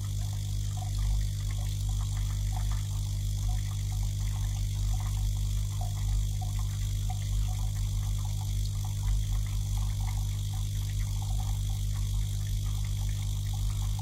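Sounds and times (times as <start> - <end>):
electric water pump humming: 0.0 - 14.0.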